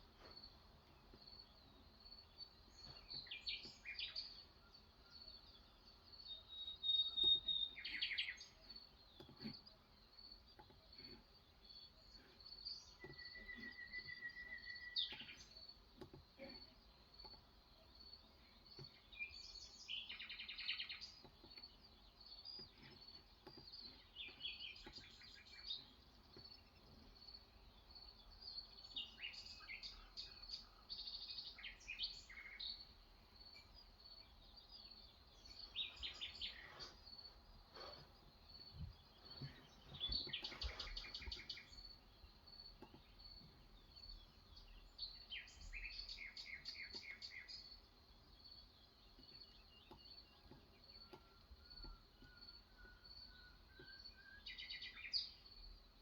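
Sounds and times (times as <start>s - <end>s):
birds chirping and trilling: 0.1s - 56.0s.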